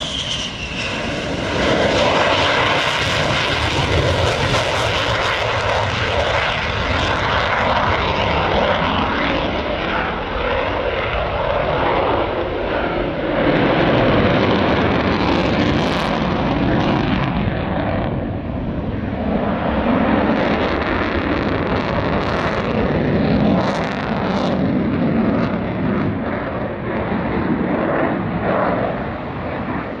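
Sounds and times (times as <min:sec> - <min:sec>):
jet engines roaring in afterburner: 0:00.0 - 0:30.0.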